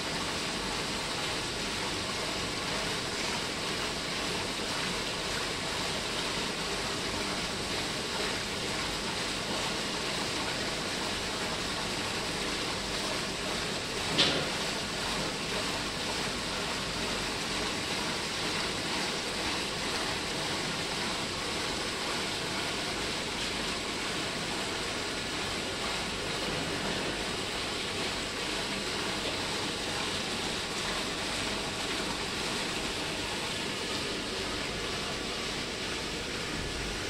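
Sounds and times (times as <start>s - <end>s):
water rushing through filter: 0.0s - 37.0s.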